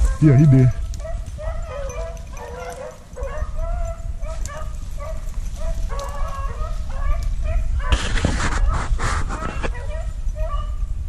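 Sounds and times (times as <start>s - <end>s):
dogs baying: 0.0s - 10.8s.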